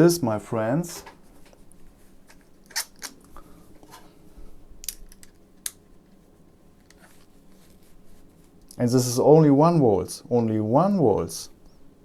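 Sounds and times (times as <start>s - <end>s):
faint steady background noise: 0.0s - 12.0s.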